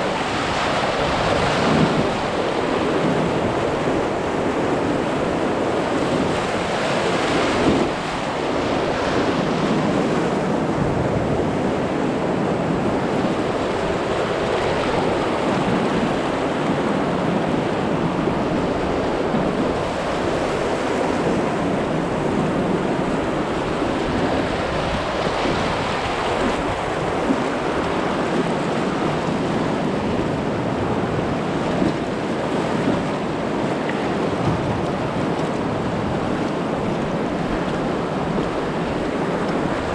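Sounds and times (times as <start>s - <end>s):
river rapids rushing: 0.0s - 39.9s
wind buffeting microphone: 0.0s - 39.9s.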